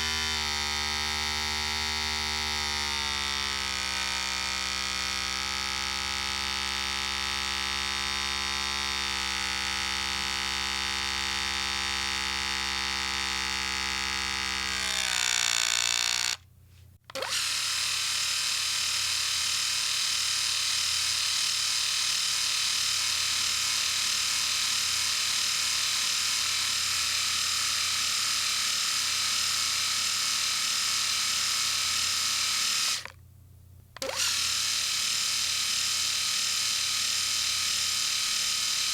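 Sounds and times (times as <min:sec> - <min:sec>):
electric shaver buzzing: 0:00.0 - 0:16.4, 0:17.1 - 0:33.2, 0:34.0 - 0:38.9
shaver with higher hissier buzz: 0:00.0 - 0:16.4, 0:17.2 - 0:33.1, 0:34.0 - 0:38.9.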